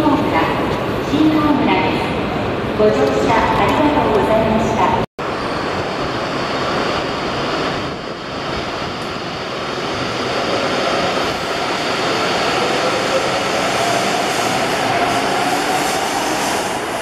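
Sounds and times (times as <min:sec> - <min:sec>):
train rumbling and rushing: 0:00.0 - 0:17.0.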